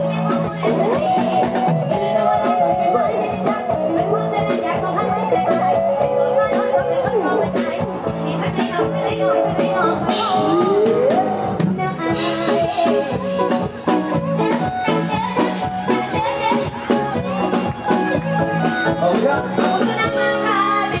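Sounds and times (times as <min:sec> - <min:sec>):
live band instrumental music: 0:00.0 - 0:21.0.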